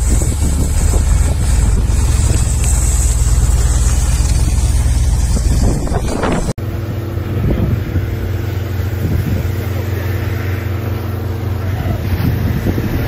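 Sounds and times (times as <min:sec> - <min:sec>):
engine drone: 0:00.0 - 0:13.0
fire hoses spraying water: 0:00.0 - 0:13.0.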